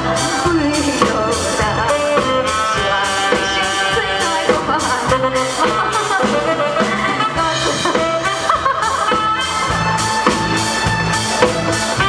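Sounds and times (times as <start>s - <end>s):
pop backing music: 0.0s - 12.0s.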